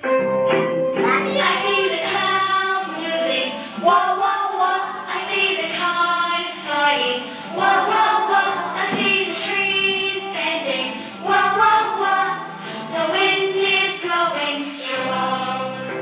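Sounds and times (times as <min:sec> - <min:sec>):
children singing over music: 0:00.7 - 0:16.0.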